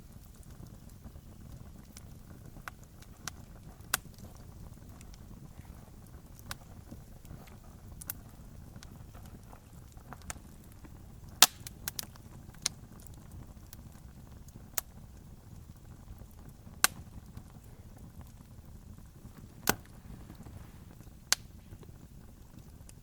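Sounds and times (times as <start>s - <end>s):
burning wood popping and snapping: 0.0s - 23.0s
fire rumble: 0.0s - 23.0s.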